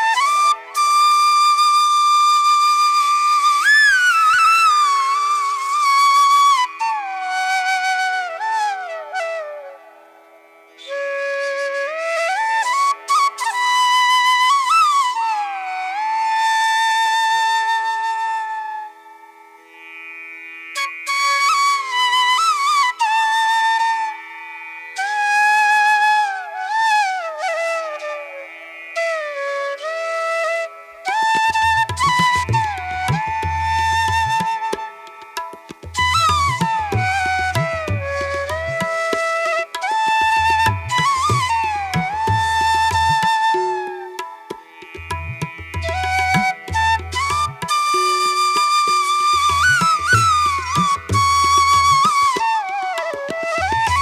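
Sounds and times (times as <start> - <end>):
slow flute-like melody: 0.0 - 19.4, 20.8 - 54.0.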